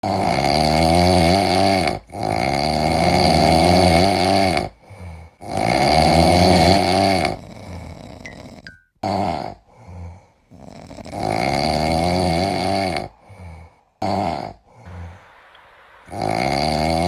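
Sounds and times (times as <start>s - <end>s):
cat snoring: 0.0s - 4.8s, 5.4s - 15.2s, 16.1s - 17.0s.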